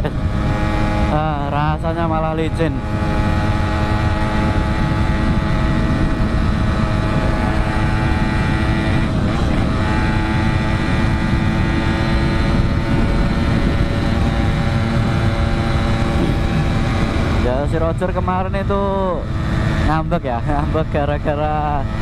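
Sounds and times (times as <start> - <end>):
two-stroke motorcycle engine cruising: 0.0 - 22.0.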